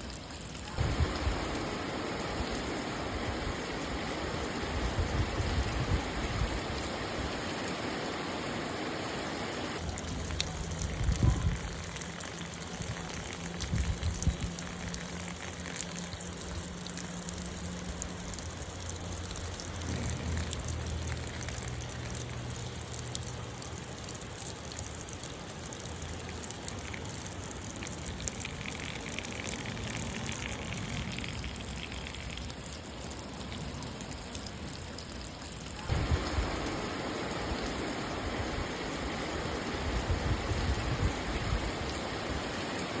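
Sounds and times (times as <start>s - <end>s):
rain falling: 0.0s - 43.0s
water running and trickling: 0.0s - 43.0s.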